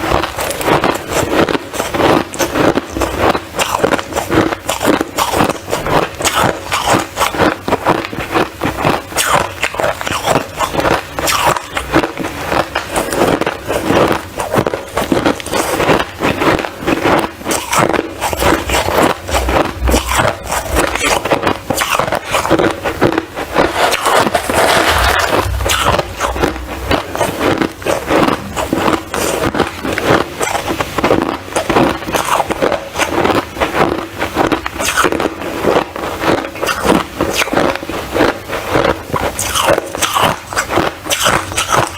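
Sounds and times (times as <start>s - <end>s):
ice crunching: 0.1s - 41.9s.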